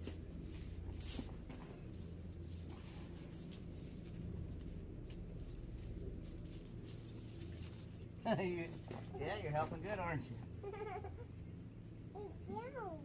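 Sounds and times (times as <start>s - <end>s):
metal chains jangling and clinking: 0.0s - 13.0s.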